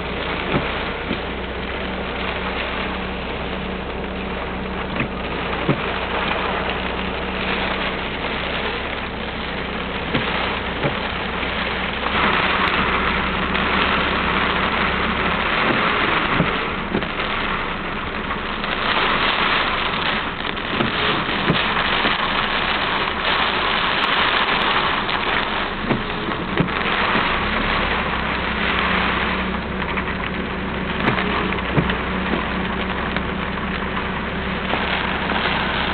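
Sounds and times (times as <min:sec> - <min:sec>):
heavy rain: 0:00.0 - 0:35.9
low engine hum: 0:00.0 - 0:35.9
river rushing: 0:00.0 - 0:35.9.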